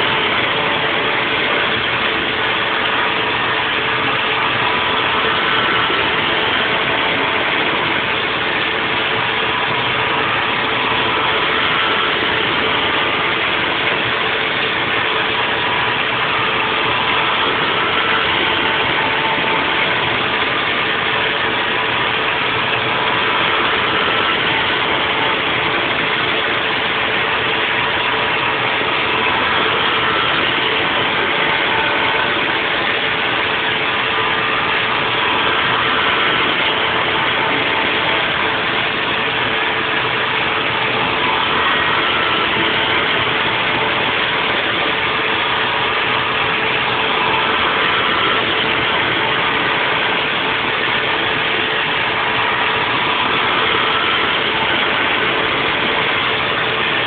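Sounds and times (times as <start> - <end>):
milling machine running: 0.0 - 57.0.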